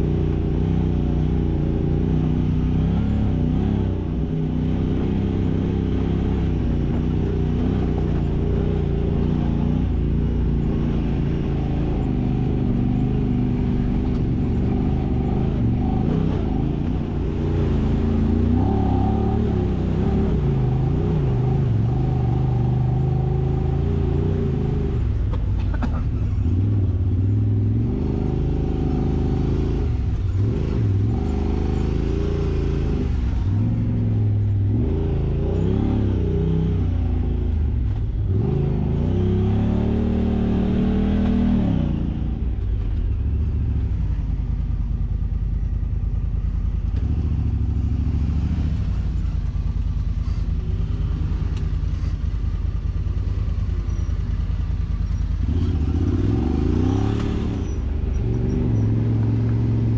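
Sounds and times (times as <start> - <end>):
utility vehicle engine revving: 0.0 - 59.9.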